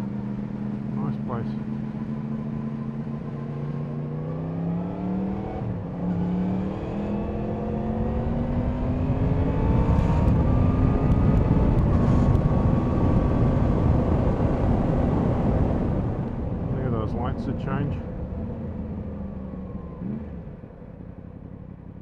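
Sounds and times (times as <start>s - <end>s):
motorcycle engine accelerating: 0.0s - 16.7s, 17.3s - 22.0s.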